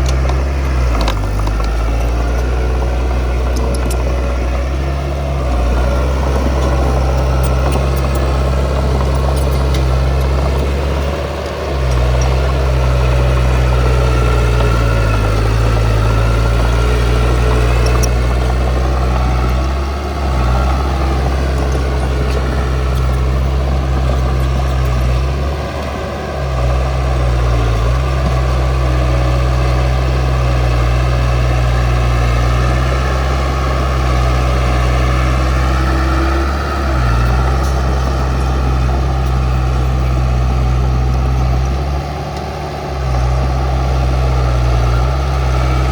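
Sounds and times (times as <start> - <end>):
heavy machinery engine running: 0.0 - 45.9.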